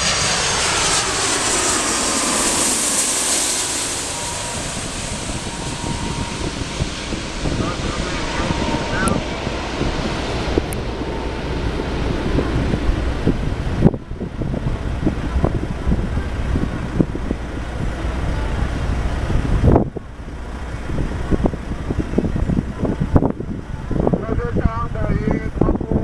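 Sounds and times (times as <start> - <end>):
jet engines rumbling: 0.0 - 26.0
wind buffeting microphone: 0.0 - 26.0.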